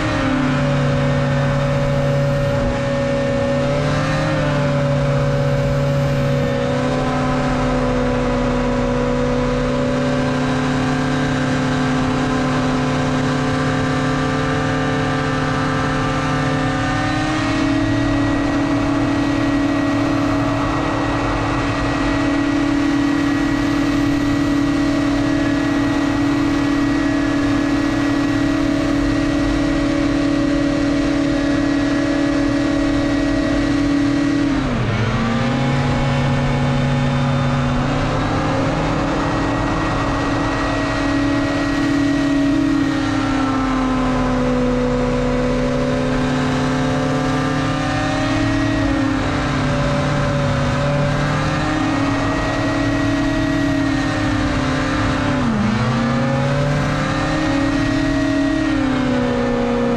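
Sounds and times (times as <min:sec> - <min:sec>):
hovercraft engine and fan running: 0:00.0 - 0:59.9.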